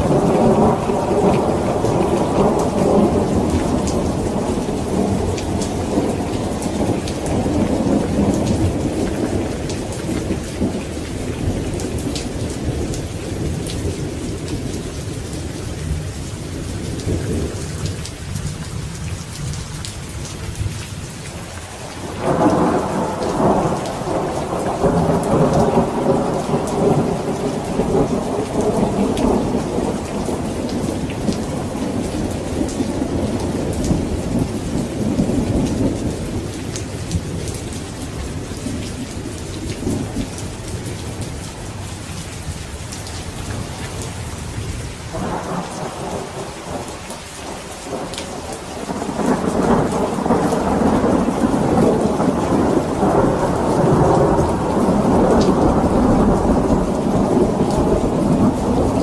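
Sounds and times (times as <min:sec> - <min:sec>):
rolling thunder: 0:00.0 - 0:18.5, 0:22.0 - 0:41.3, 0:43.6 - 0:59.0
heavy rain: 0:00.0 - 0:59.0.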